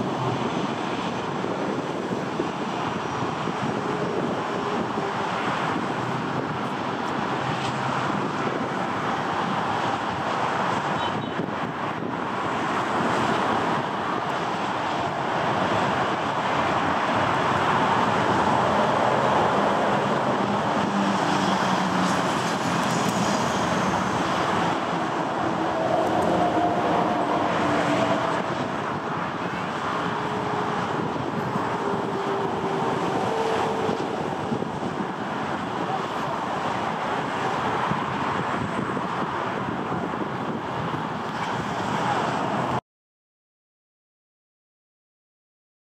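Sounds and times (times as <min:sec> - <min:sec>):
jet engines taxiing: 0:00.0 - 0:42.8.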